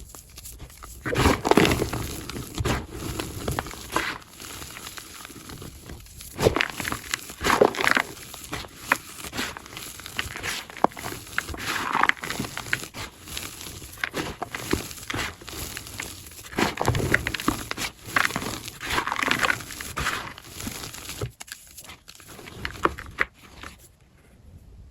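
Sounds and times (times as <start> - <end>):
chalk crunching and crumbling: 0.0 - 24.0.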